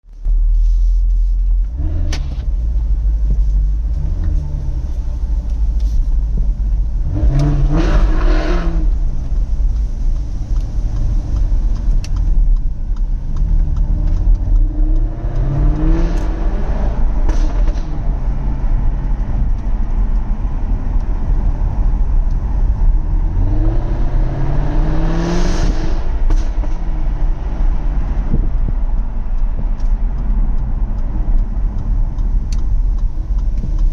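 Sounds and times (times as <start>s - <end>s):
car engine idling and revving: 0.0s - 33.9s
exhaust crackles and pops: 0.0s - 33.9s.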